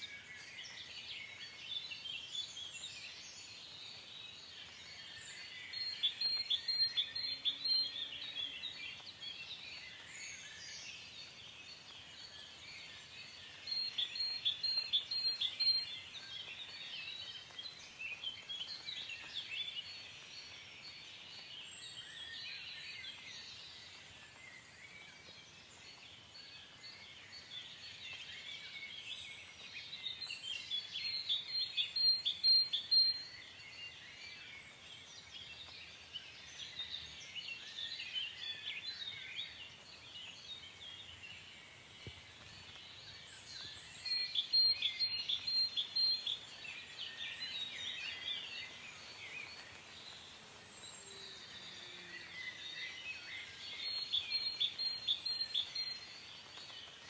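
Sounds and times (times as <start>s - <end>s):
chorus of chirping birds: 0.0s - 57.0s.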